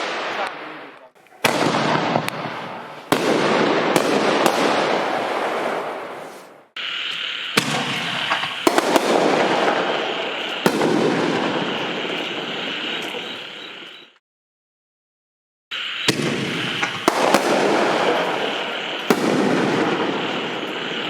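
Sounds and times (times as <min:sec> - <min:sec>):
steady hiss of fireworks: 0:00.0 - 0:14.2, 0:15.7 - 0:21.0
firework shells bursting: 0:01.2 - 0:13.9, 0:15.8 - 0:21.0.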